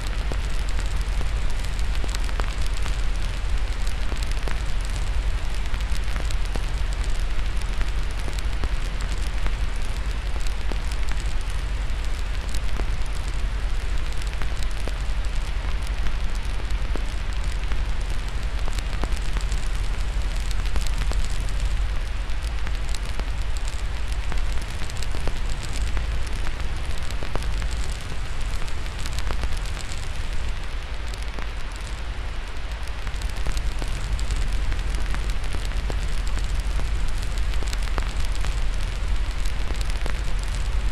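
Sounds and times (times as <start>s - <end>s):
crackling fire: 0.0s - 40.9s
deep steady rumble: 0.0s - 40.9s
steady white noise hiss: 0.0s - 40.9s.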